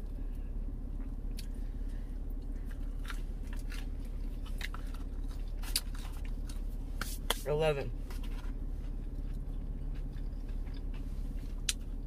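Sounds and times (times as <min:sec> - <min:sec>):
person chewing: 0:00.0 - 0:07.4, 0:08.0 - 0:12.0
low steady hum: 0:00.0 - 0:12.0.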